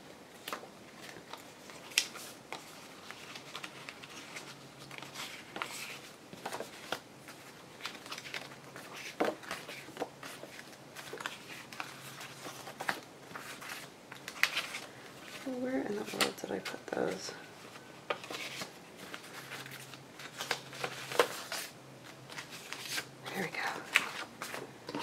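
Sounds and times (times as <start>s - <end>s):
paper rustling: 0.3s - 25.0s.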